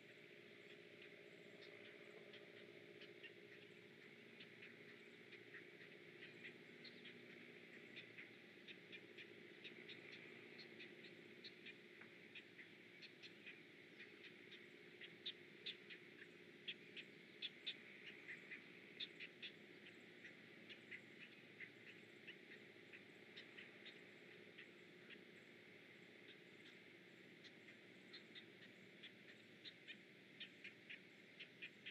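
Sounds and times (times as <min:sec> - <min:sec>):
faint bird calls: 0:00.0 - 0:31.9
faint low hum: 0:00.0 - 0:31.9.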